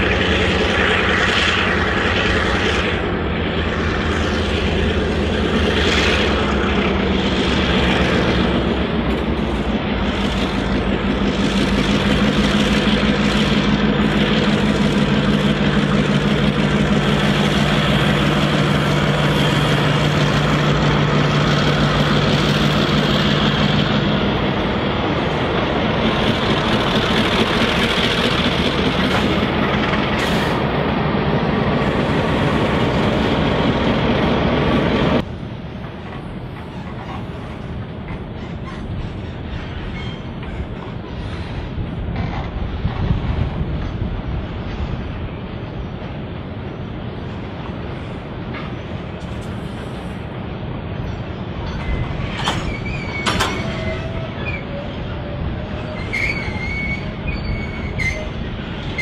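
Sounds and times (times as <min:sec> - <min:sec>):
distant train: 0:00.0 - 0:59.0
freight wagons rolling past: 0:00.0 - 0:59.0
locomotive engines running: 0:00.0 - 0:59.0.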